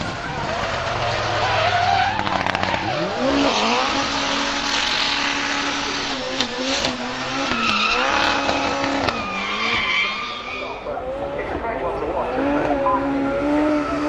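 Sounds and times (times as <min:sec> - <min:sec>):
car engine at high revs: 0:00.0 - 0:14.0
tyres squealing: 0:00.1 - 0:14.0.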